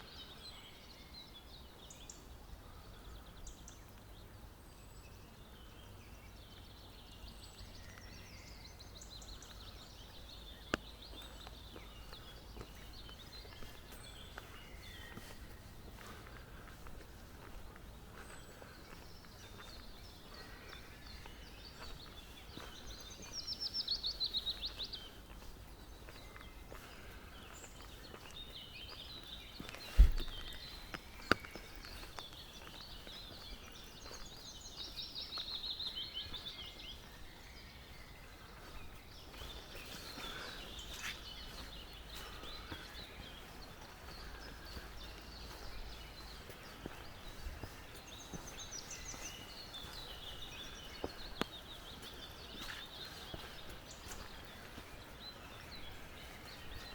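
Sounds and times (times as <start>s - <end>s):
forest birds calling: 0.0s - 56.9s.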